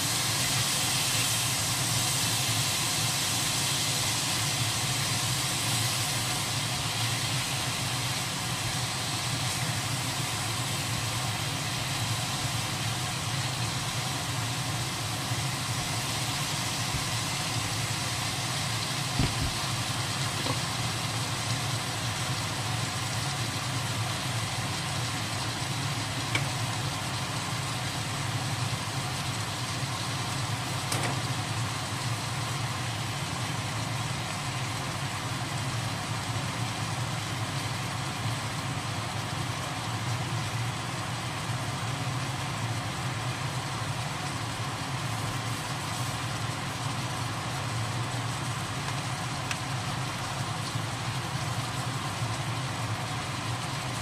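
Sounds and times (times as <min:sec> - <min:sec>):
squid sizzling in a wok: 0:00.0 - 0:54.0.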